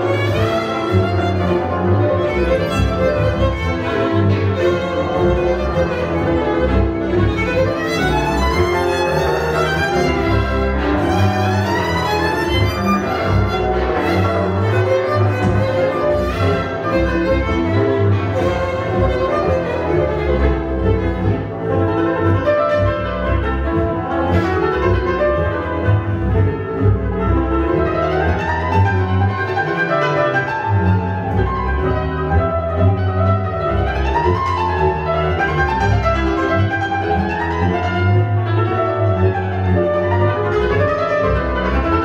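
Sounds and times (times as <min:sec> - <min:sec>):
double bass: 0:00.0 - 0:42.0
violins playing: 0:00.0 - 0:42.0.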